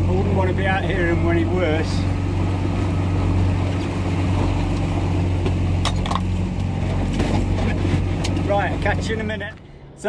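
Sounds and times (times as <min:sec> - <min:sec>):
outboard motor running: 0:00.0 - 0:09.5
water rushing against hull: 0:00.0 - 0:09.6.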